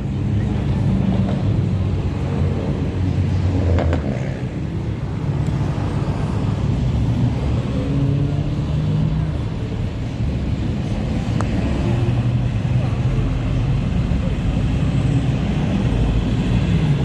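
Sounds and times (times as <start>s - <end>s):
cars driving slowly past: 0.0s - 17.0s.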